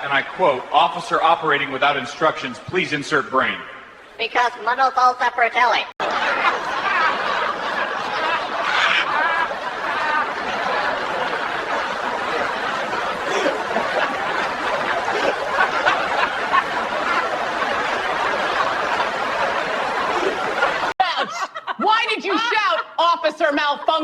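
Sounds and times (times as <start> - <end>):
crowd laughing: 0.0 - 2.5, 6.0 - 24.0.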